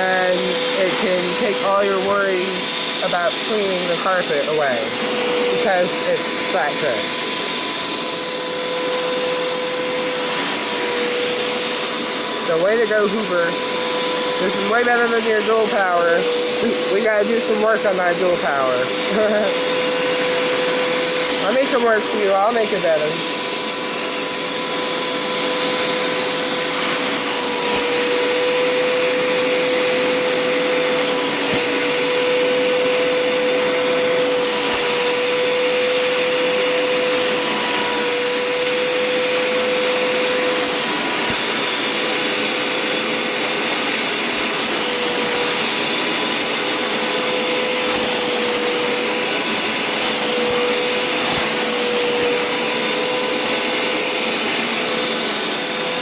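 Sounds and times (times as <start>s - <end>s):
carpet cleaner motor hum and whine: 0.0s - 56.0s.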